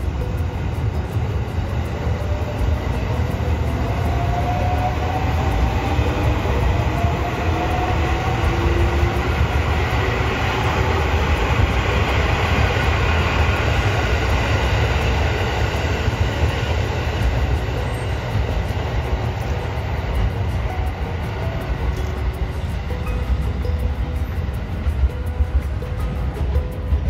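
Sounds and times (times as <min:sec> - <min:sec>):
train running: 0:00.0 - 0:27.0.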